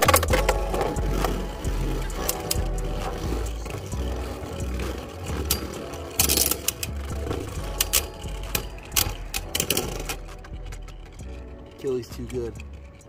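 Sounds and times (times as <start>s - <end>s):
spinning tops whirring: 0.0s - 11.6s.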